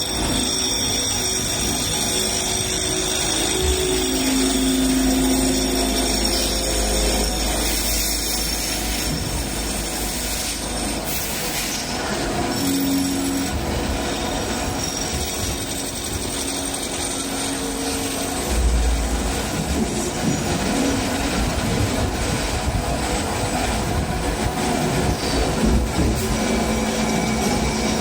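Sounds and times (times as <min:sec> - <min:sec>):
lathe cutting metal: 0:00.0 - 0:28.0.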